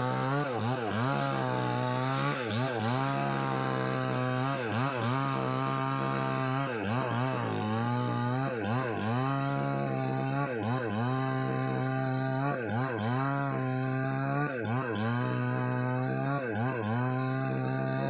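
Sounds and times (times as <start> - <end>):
chainsaw running at high speed: 0.0 - 18.0.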